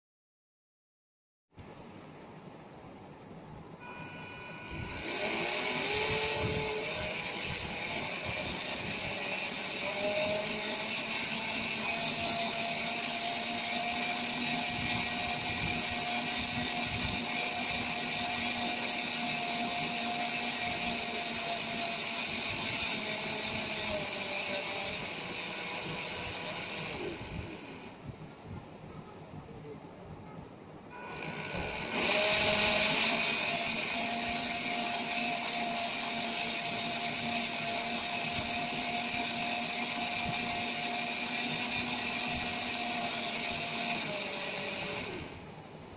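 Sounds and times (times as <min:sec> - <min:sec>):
small motors whining: 0:03.8 - 0:28.2, 0:30.9 - 0:45.6.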